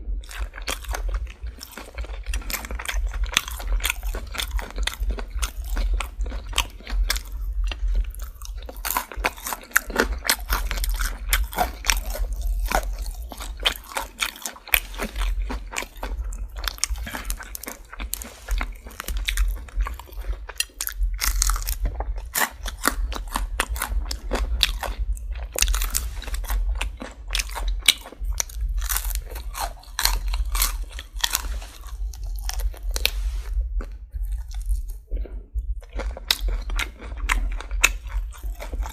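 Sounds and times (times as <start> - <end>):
crunching fried chicken: 0.0 - 38.9.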